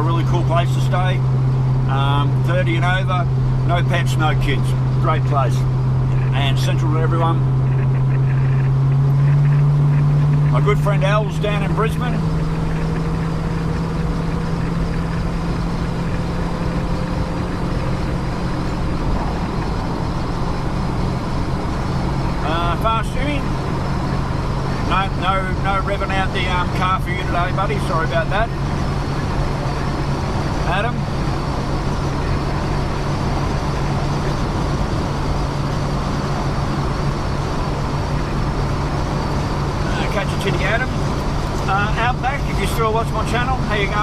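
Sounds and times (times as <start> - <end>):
car engine drone: 0.0 - 44.0
road noise inside car: 0.0 - 44.0
low hum: 4.4 - 44.0.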